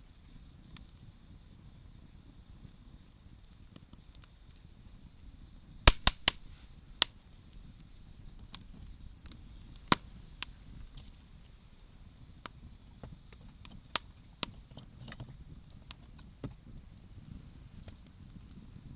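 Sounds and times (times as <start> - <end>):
campfire crackling and popping: 0.0 - 18.9
faint steady hiss: 0.0 - 18.9.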